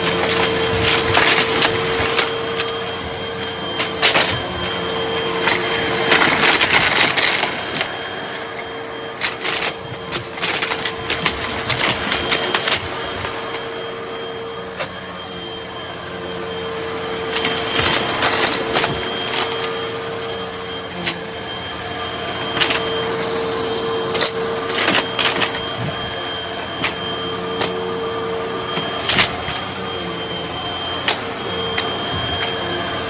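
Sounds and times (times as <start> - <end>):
debris crackling through hose: 0.0 - 33.0
vacuum cleaner motor whine: 0.0 - 33.0.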